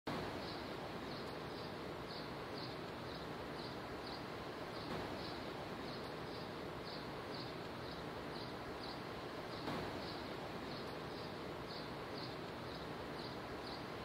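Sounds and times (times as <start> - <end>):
steady background hiss: 0.1 - 14.0
faint high insect chirps: 0.3 - 14.0.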